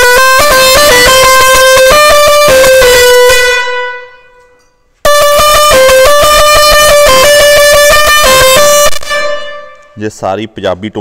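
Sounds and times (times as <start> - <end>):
multi-trumpet musical pressure horn: 0.0 - 10.1.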